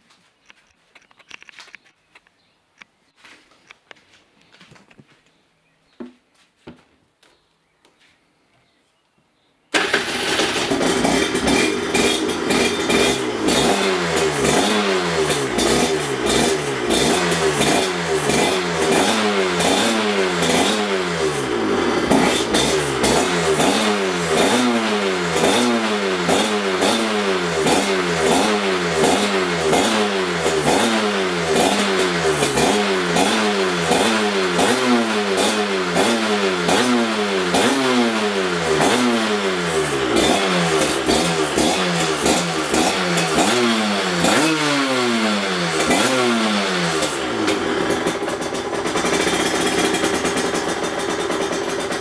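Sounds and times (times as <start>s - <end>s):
two-stroke engine revving: 9.7s - 52.0s.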